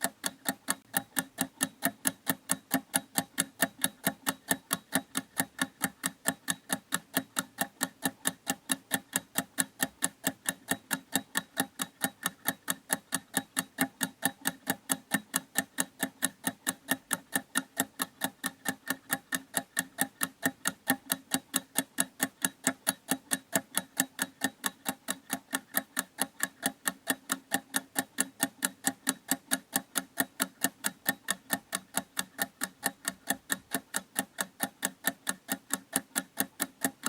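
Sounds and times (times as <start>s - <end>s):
clock ticking: 0.0s - 37.0s.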